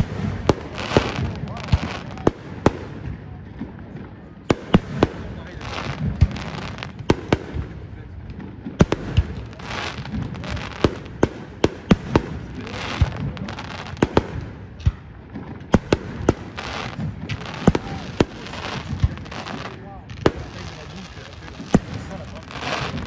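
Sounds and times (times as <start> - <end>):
crackling firework stars: 0.0 - 23.0.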